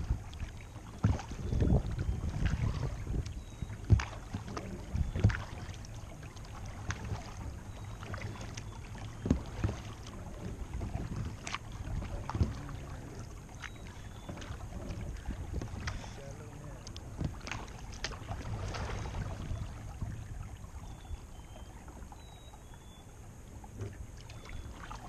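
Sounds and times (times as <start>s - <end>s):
paddle knocking plastic hull: 0.0s - 20.3s
low steady rumble: 0.0s - 25.0s
paddle splashes: 0.0s - 25.0s.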